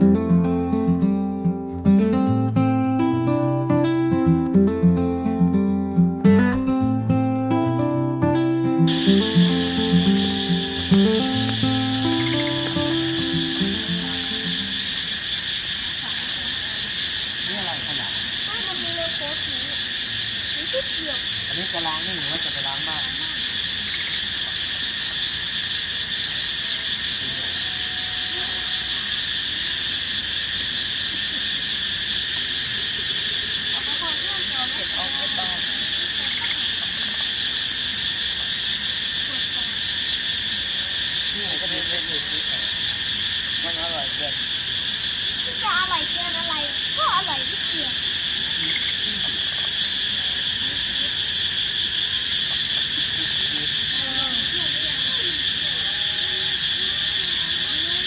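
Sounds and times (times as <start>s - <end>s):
forest insects chorus: 0.0s - 58.0s.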